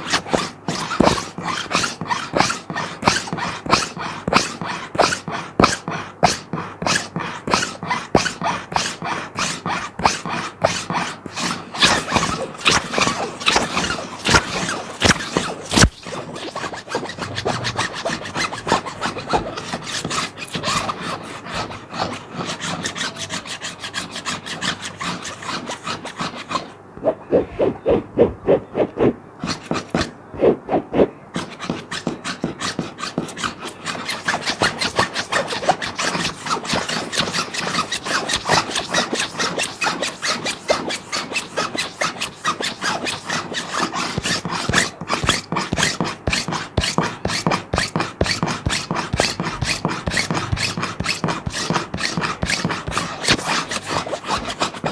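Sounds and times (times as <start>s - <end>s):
plastic sheet being scratched: 6.2s - 54.9s.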